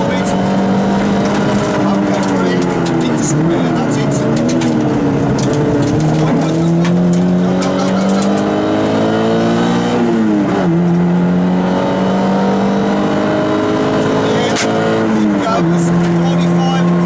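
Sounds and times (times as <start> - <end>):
car engine pulling under load: 0.0 - 17.0.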